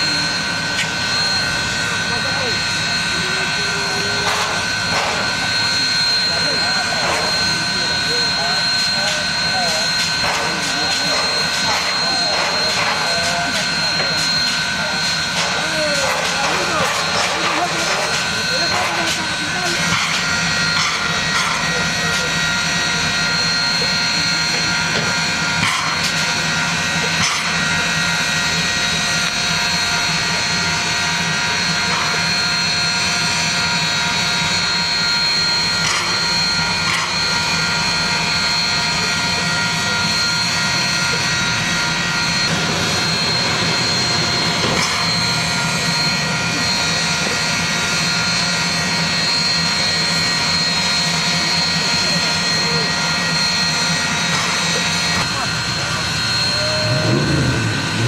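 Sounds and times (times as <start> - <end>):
steam locomotive hissing: 0.0 - 58.0
whining tones: 0.0 - 58.0.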